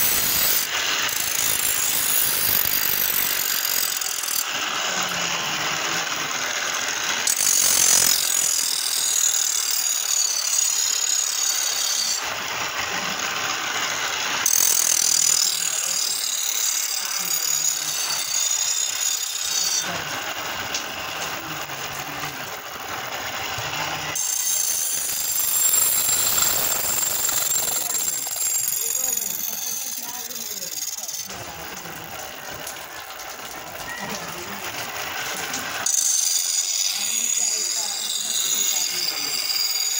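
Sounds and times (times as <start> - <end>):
blade scraping on grinding wheel: 0.0 - 39.9
grinding wheel running: 0.0 - 39.9.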